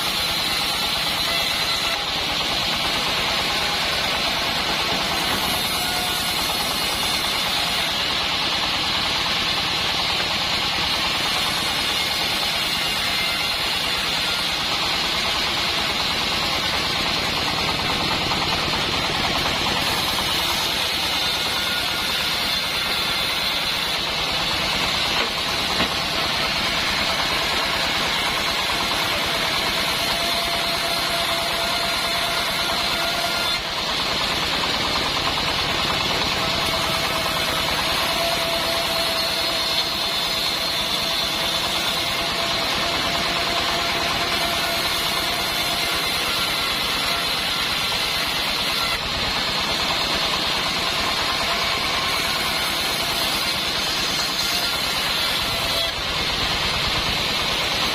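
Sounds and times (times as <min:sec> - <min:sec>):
band sawmill running: 0:00.0 - 0:57.9.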